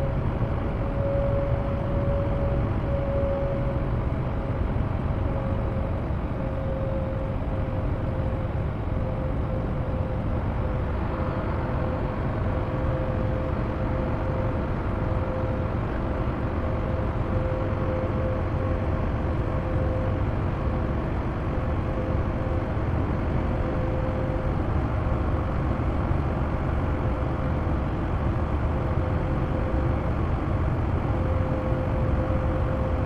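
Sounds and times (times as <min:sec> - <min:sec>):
steady whine: 0:00.0 - 0:33.0.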